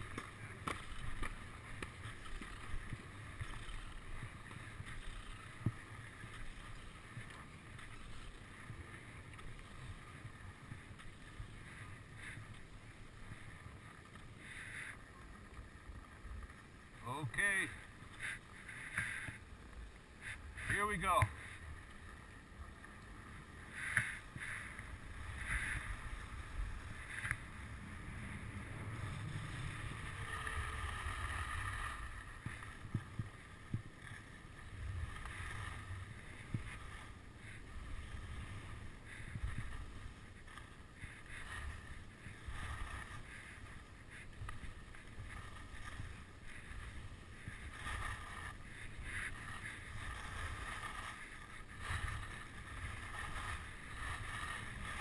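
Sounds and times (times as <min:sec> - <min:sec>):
skis scraping on packed snow: 0:00.0 - 0:55.0.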